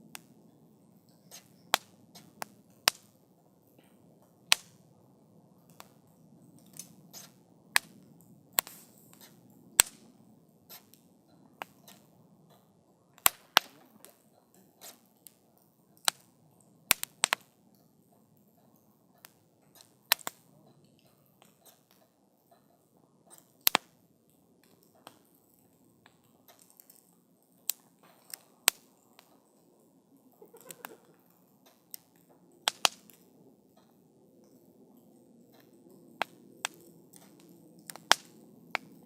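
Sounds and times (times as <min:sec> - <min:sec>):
campfire crackling and popping: 0:00.0 - 0:39.0
low hiss of flames: 0:00.0 - 0:39.0.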